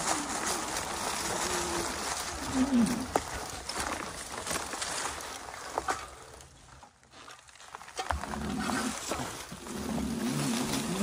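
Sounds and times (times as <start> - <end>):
background noise: 0.0 - 11.0.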